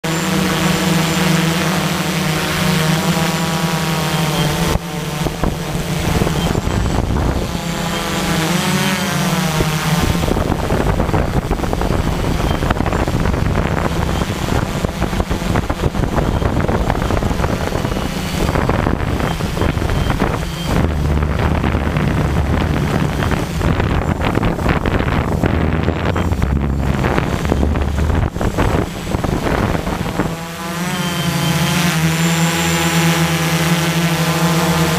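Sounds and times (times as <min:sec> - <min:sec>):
drone motors and propellers humming: 0:00.0 - 0:34.9
wind noise on microphone: 0:00.0 - 0:34.9.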